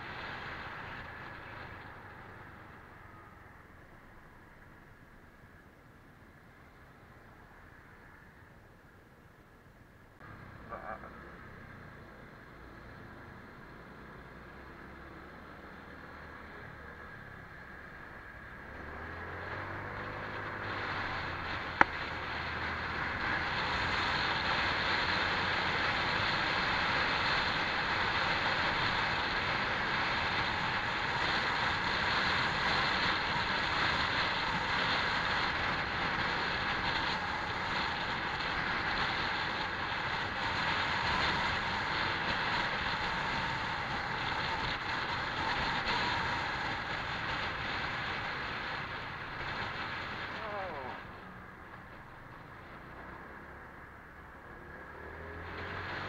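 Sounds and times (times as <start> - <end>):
wind and road noise: 0.0 - 56.0
scooter engine: 10.2 - 56.0.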